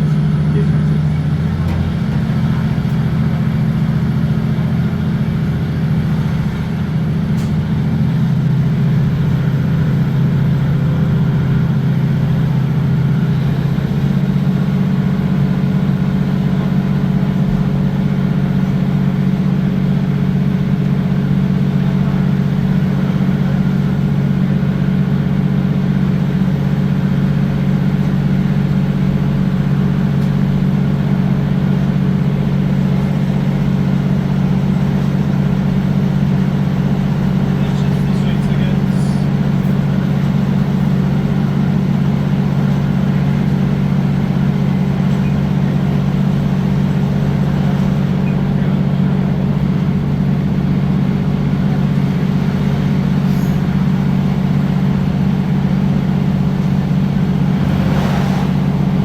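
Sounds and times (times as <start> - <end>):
diesel train engine drone: 0.0 - 59.0.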